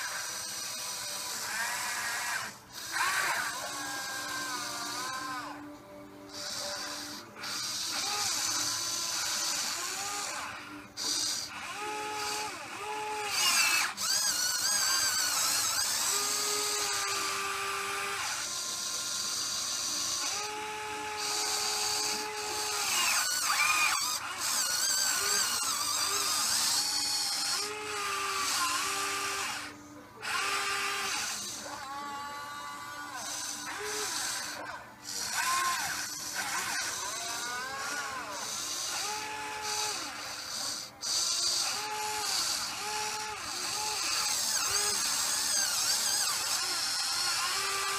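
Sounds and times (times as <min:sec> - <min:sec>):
electric motors whining: 0:00.0 - 0:47.9.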